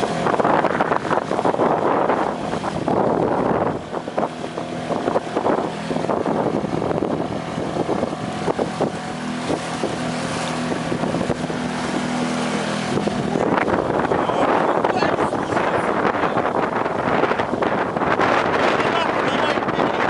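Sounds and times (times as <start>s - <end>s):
lake waves splashing: 0.0s - 20.0s
strong wind buffeting microphone: 0.0s - 20.0s.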